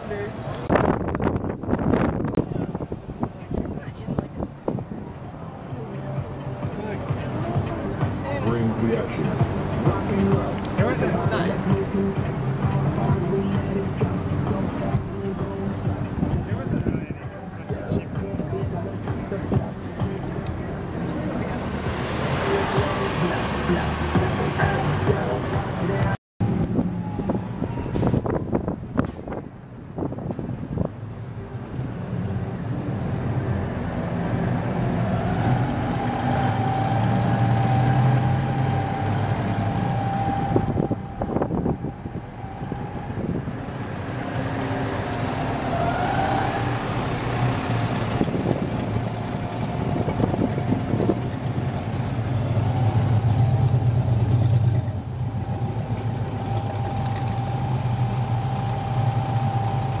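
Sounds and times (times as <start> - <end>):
bus engine alongside: 0.0 - 60.0
car engine hum: 0.0 - 60.0.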